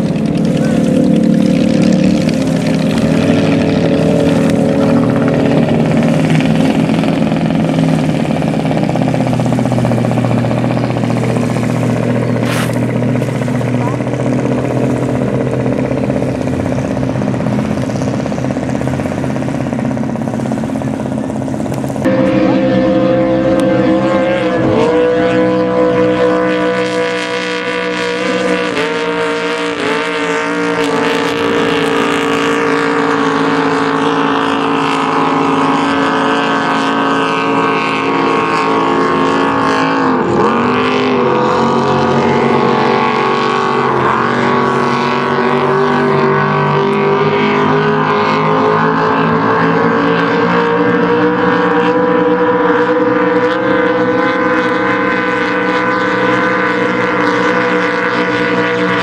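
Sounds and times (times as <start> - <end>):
race boat engines roaring: 0.0 - 59.0.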